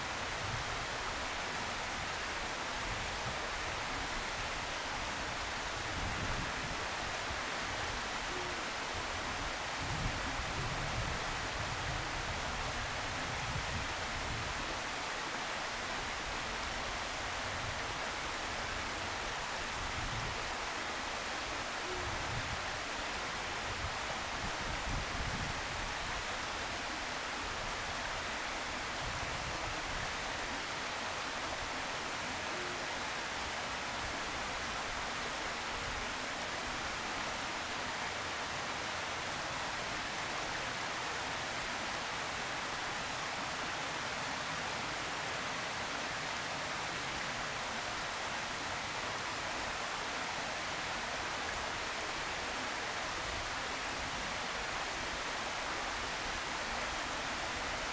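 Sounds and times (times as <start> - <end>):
outdoor background hiss: 0.0 - 57.9.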